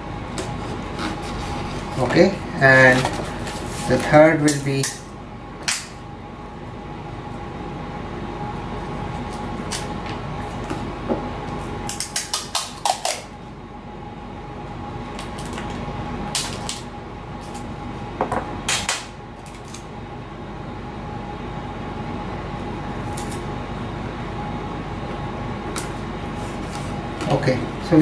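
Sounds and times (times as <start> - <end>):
fan hum: 0.0 - 28.0.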